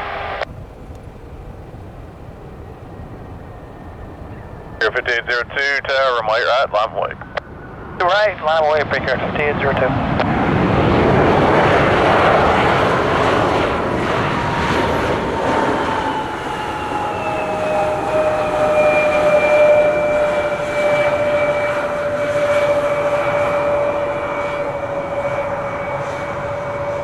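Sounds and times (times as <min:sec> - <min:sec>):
engine whine sliding down: 0:00.0 - 0:05.0, 0:10.2 - 0:27.0
jet engines on landing roll: 0:00.0 - 0:27.0.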